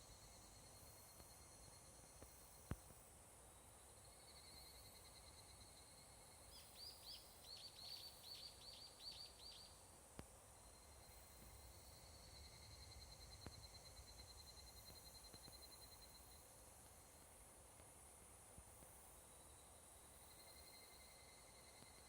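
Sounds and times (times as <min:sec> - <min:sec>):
distant insects trilling: 0:00.0 - 0:17.5, 0:18.3 - 0:22.0.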